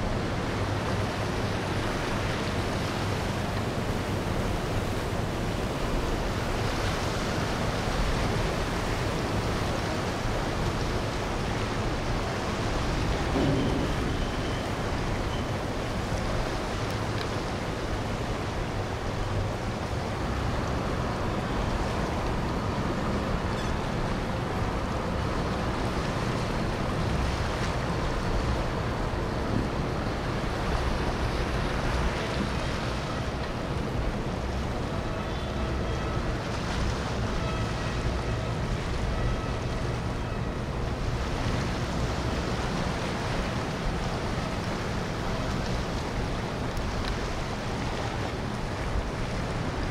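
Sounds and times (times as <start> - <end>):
faint boat engine tones: 0.0 - 49.9
wind and water rushing: 0.0 - 49.9.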